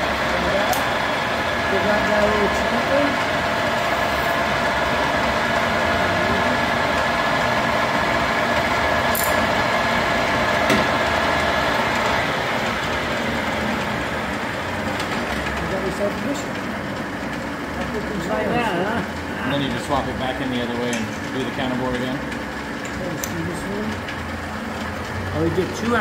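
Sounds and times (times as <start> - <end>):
lathe running: 0.0 - 26.0.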